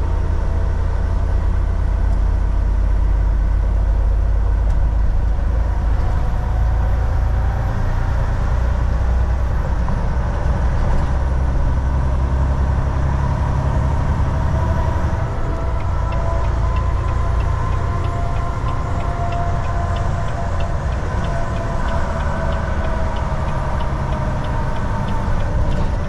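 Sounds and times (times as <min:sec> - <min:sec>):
road and tyre noise: 0:00.0 - 0:26.0
truck engine drone: 0:00.0 - 0:26.0.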